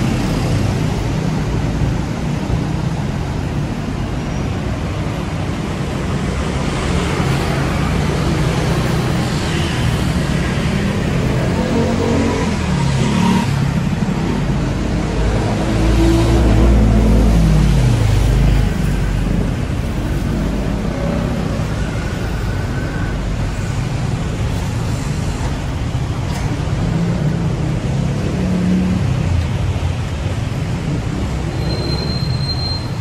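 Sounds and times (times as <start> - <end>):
city traffic rumble: 0.0 - 33.0.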